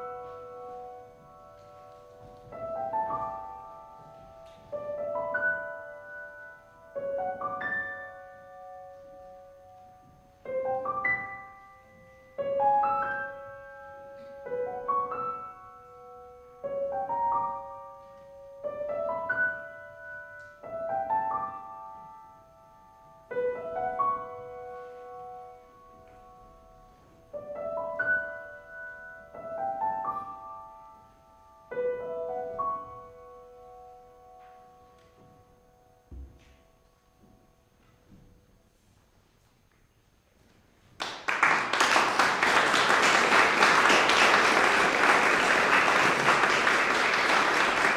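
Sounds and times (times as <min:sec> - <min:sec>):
grand piano notes: 0:00.0 - 0:38.8, 0:41.0 - 0:47.9.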